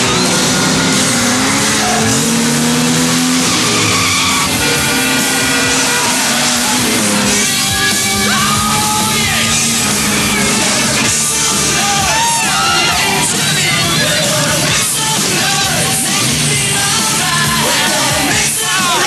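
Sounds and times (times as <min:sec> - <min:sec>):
soundtrack music: 0:00.0 - 0:19.0
sports car engines running: 0:00.0 - 0:19.0
tyres skidding: 0:00.0 - 0:19.0.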